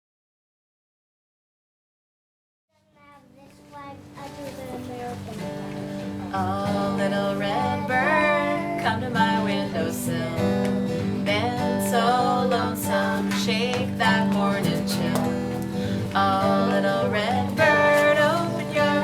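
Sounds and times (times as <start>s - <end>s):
acoustic guitar strumming: 3.0s - 19.0s.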